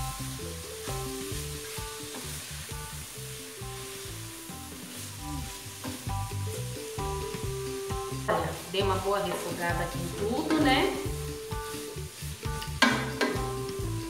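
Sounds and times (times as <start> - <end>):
background music with melody: 0.0 - 14.0
food sizzling in a pot: 0.0 - 14.0.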